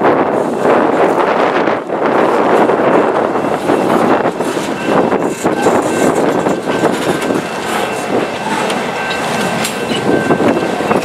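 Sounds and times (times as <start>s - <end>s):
diesel locomotive engine: 0.0s - 11.0s
train wheels on rails: 0.0s - 11.0s.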